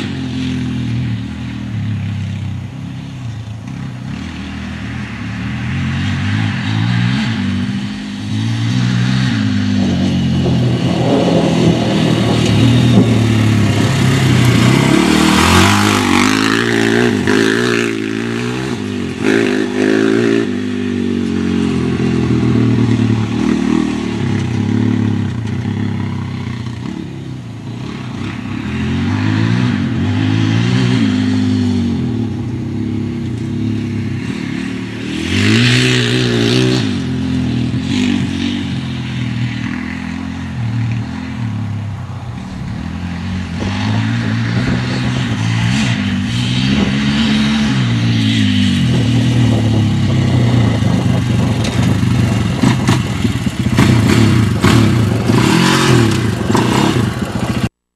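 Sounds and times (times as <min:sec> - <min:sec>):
quad engine revving: 0:03.8 - 0:41.6, 0:42.2 - 0:57.9.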